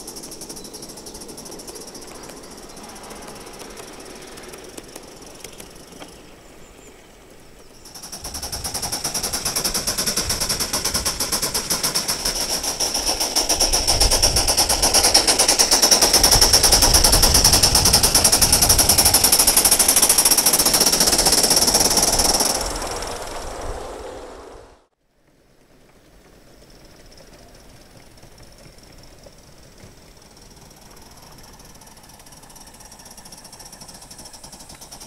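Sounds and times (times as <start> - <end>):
steam locomotive exhaust beats: 0.0 - 24.8, 26.0 - 35.0
steam hiss: 0.0 - 24.9, 26.6 - 35.0.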